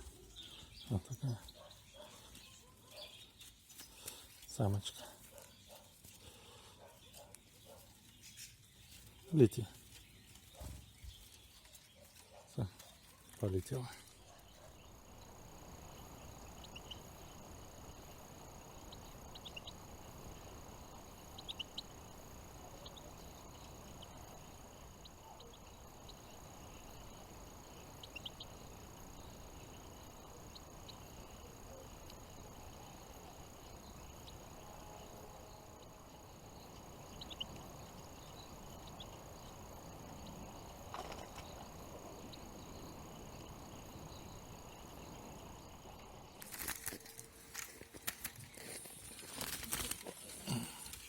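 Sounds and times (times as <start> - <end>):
outdoor background hiss: 0.0 - 51.0
songbirds chirping: 0.0 - 51.0.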